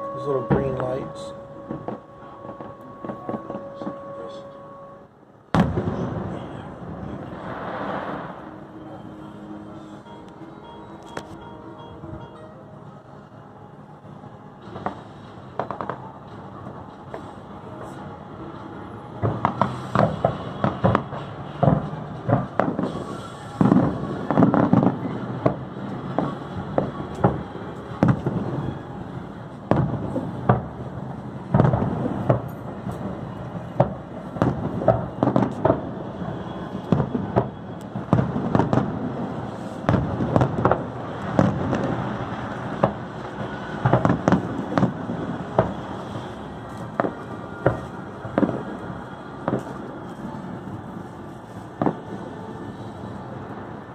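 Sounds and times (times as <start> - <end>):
fireworks bangs: 0.0 - 4.6, 5.5 - 9.0, 14.6 - 53.9
continuous fireworks rumble: 0.0 - 12.3, 13.2 - 53.9.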